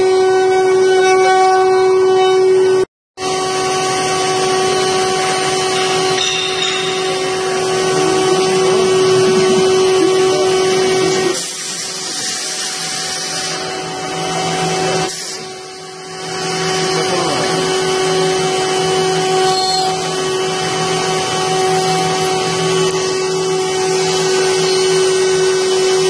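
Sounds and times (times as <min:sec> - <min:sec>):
router spindle whining: 0:03.2 - 0:26.0.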